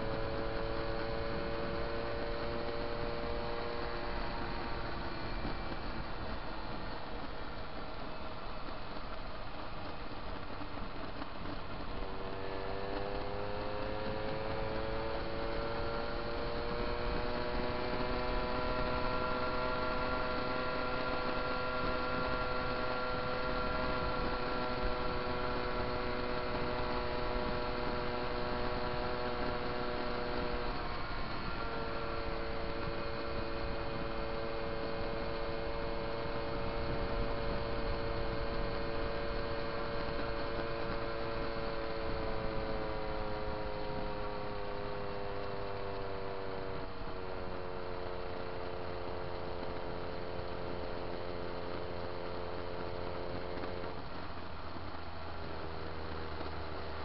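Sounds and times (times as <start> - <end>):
moped engine running: 0.0 - 57.0
steady rushing noise: 0.0 - 57.0.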